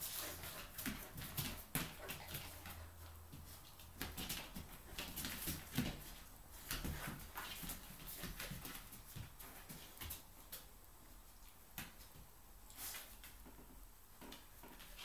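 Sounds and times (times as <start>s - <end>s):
dogs scuffling: 0.0s - 15.0s.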